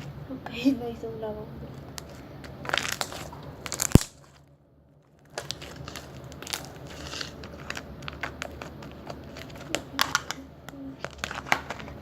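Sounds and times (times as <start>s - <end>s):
crunchy slime crackling and popping: 1.7s - 12.0s.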